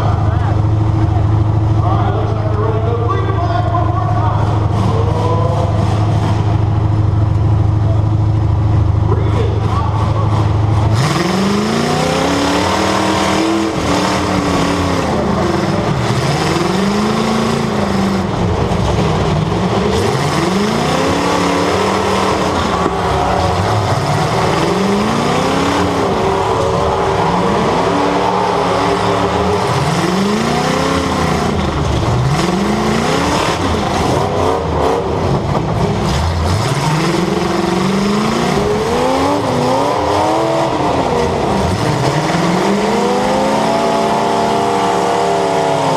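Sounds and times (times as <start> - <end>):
car engine revving: 0.0 - 45.9
steady noisy background: 0.0 - 45.9.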